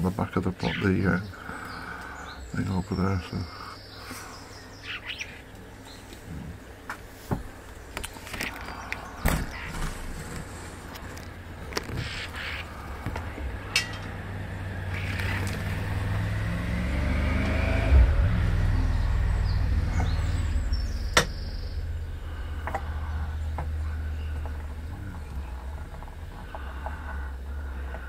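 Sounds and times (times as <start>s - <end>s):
motor engine rumbling: 0.0s - 28.0s.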